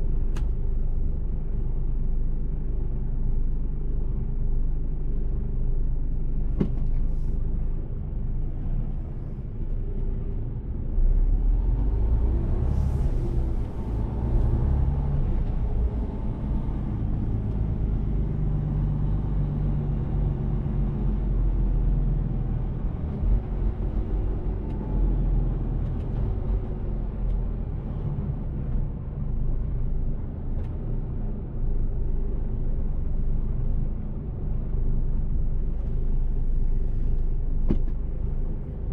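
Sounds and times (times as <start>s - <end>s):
road rumble: 0.0s - 38.9s.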